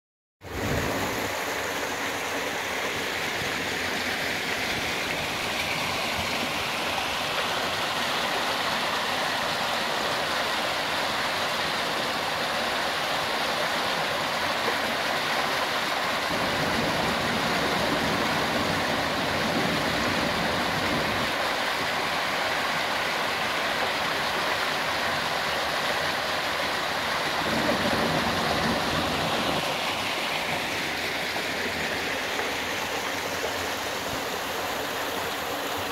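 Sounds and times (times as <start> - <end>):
water rushing and splashing: 0.4 - 35.9.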